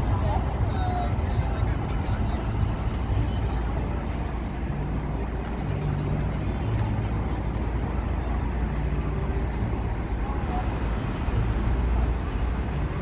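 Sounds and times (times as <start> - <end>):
car and truck engines rumbling: 0.0 - 13.0.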